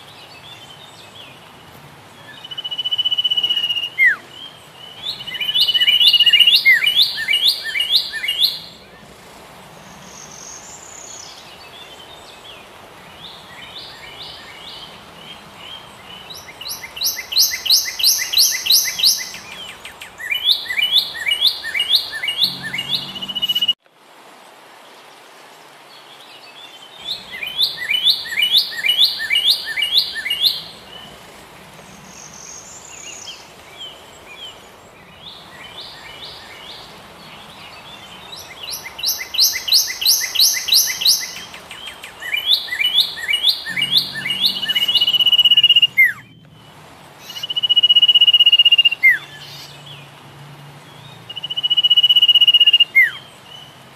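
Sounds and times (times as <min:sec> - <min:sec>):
songbird chirping: 0:00.0 - 0:23.8, 0:24.8 - 0:53.9
faint steady hiss: 0:00.0 - 0:53.9.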